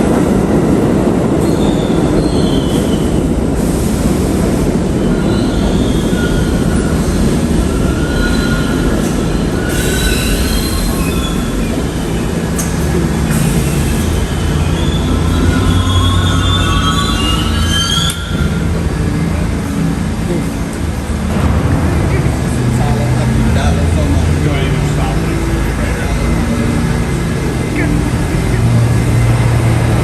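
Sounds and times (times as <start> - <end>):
high wheel squeal: 0.0 - 30.0
train wheels rumbling on rail: 0.0 - 30.0.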